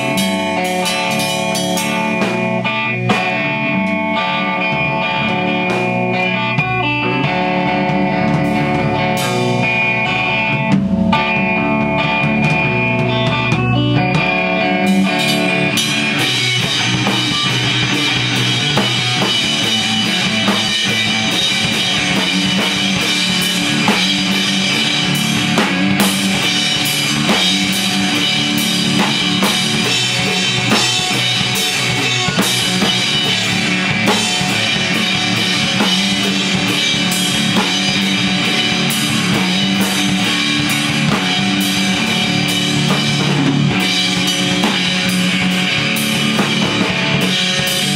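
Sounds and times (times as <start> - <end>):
drum kit playing rock: 0.0 - 47.9
electric guitar: 0.0 - 47.9.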